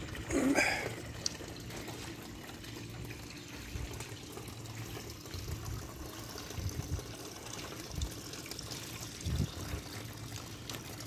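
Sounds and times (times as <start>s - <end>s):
fountain water splashing into tub: 0.0s - 11.0s
water trickling into pond: 0.0s - 11.0s.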